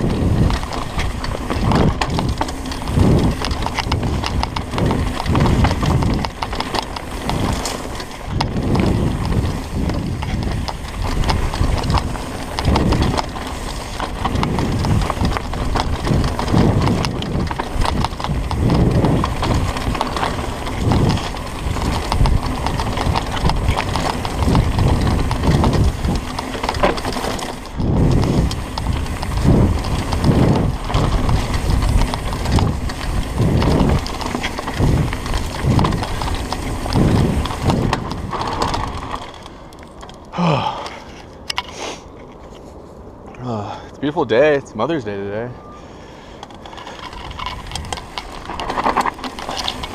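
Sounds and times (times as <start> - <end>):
bike clattering over bumps: 0.0 - 41.7, 46.4 - 49.9
tyre and wind noise: 0.0 - 49.9.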